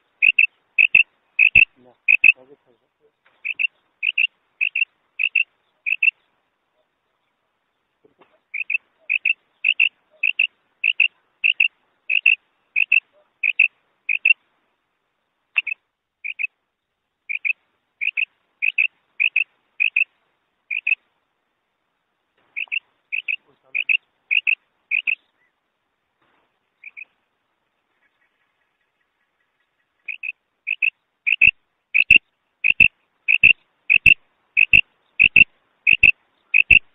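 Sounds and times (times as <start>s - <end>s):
quail calling in short sharp notes: 0.0s - 7.0s, 8.0s - 14.4s, 15.6s - 16.6s, 17.3s - 20.1s, 20.7s - 21.0s, 22.4s - 25.6s, 26.8s - 27.2s, 27.9s - 36.9s.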